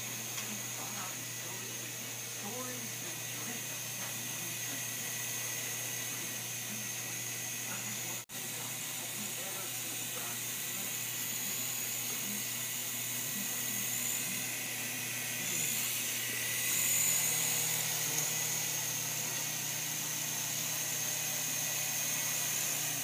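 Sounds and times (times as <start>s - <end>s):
toy helicopter rotor whine: 0.0s - 23.0s.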